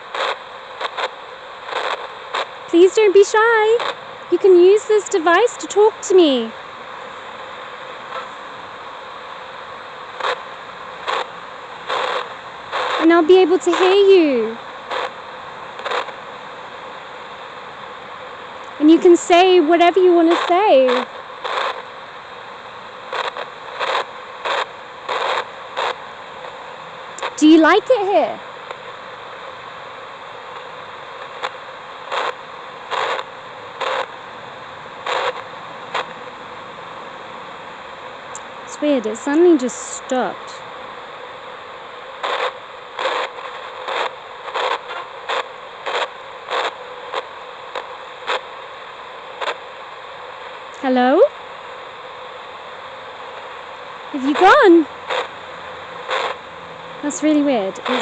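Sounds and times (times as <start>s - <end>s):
bursts of louder static: 0.0s - 58.0s
radio static hiss: 0.0s - 58.0s.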